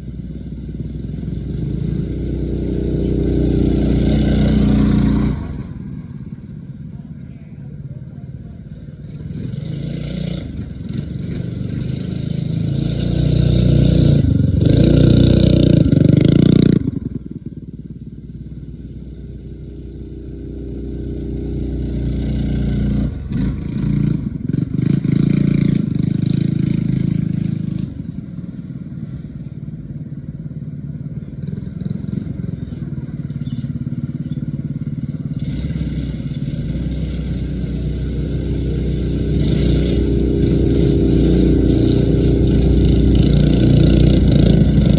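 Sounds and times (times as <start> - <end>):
mini bike engine revving: 0.0 - 44.9.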